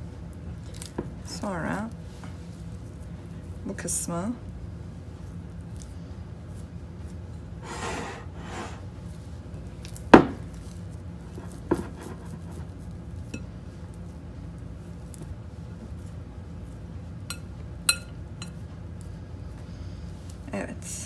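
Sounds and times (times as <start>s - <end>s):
hands rubbing wet dough: 0.0s - 17.8s.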